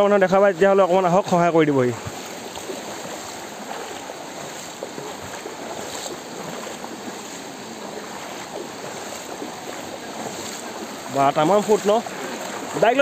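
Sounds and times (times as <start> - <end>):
rushing floodwater: 0.0 - 13.0.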